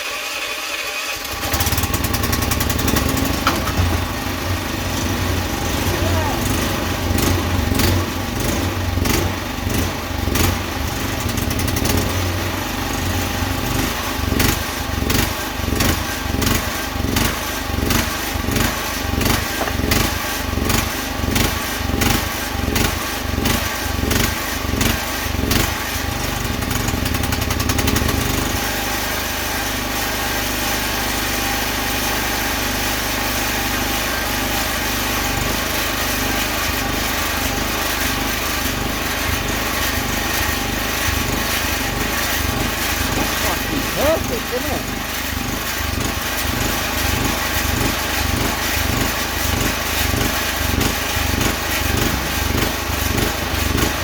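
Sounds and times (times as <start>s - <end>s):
motor-driven machine running: 0.0s - 28.7s, 33.7s - 54.0s.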